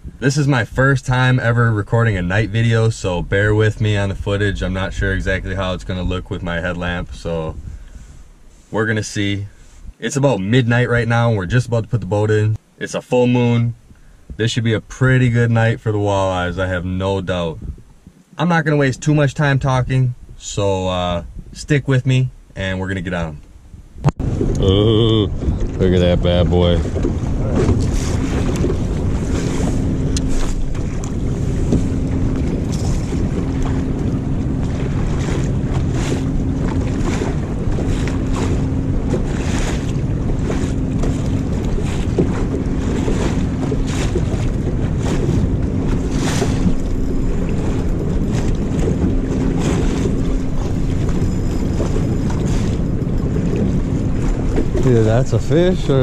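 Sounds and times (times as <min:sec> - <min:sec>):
wind buffeting microphone: 0:00.0 - 0:10.0, 0:17.2 - 0:18.2, 0:19.8 - 0:21.9, 0:22.8 - 0:56.0
choppy river water: 0:00.0 - 0:56.0
faint low hum: 0:00.0 - 0:56.0.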